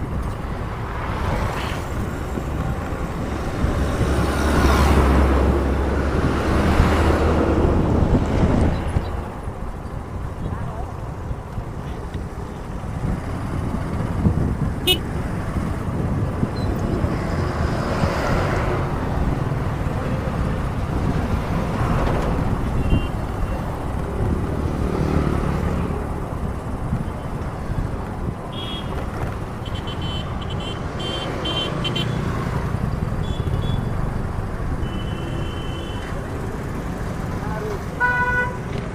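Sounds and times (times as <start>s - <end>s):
road traffic rumble: 0.0s - 38.9s
vehicles passing: 0.0s - 38.9s.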